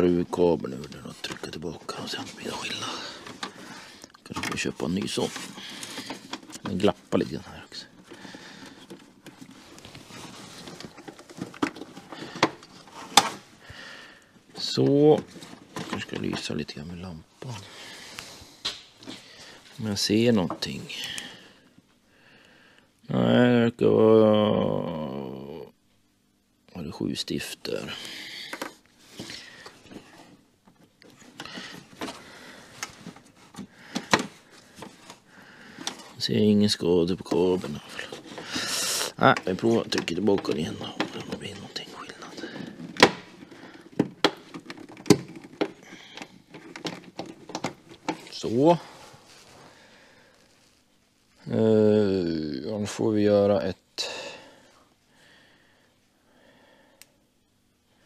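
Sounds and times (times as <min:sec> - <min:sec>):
rustling handling noise: 0:00.0 - 0:22.0, 0:27.0 - 0:53.7.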